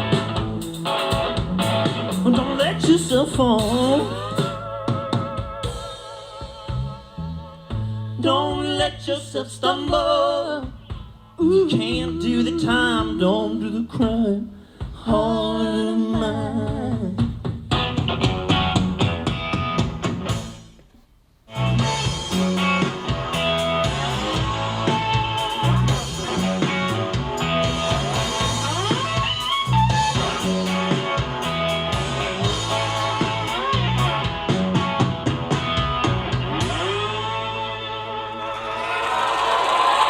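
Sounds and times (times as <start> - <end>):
instrumental rock music from speaker: 0.0 - 9.2, 9.9 - 13.3, 16.2 - 20.8, 21.5 - 40.0.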